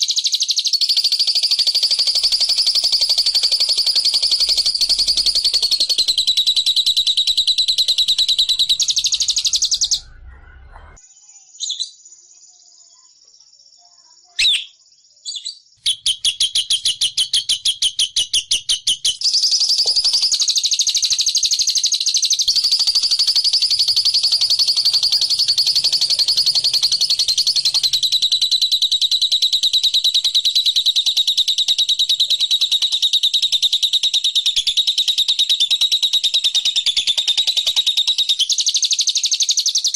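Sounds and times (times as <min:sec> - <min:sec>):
songbird trilling song: 0:00.0 - 0:10.2, 0:11.0 - 0:39.9.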